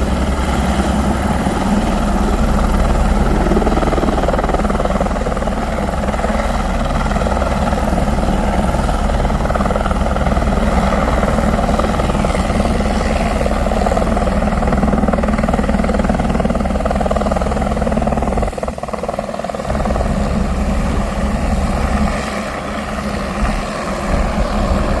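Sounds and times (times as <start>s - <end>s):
helicopter rotor beat: 0.0s - 25.0s.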